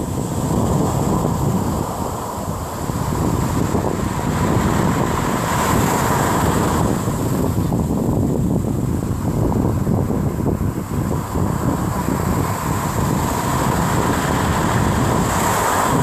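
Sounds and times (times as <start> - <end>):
ocean waves rumbling: 0.0 - 16.0
wind buffeting microphone: 0.0 - 16.0.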